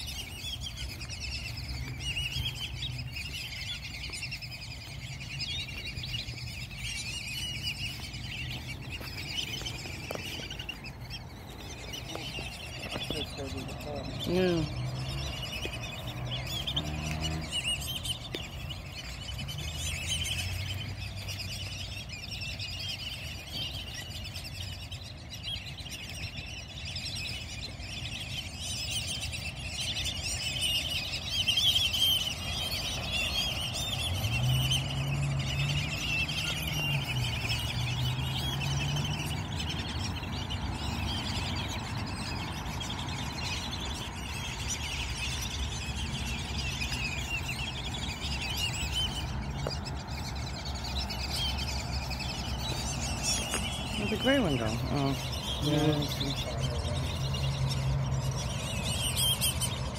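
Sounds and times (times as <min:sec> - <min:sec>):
water birds squeaking and chirping: 0:00.0 - 0:59.9.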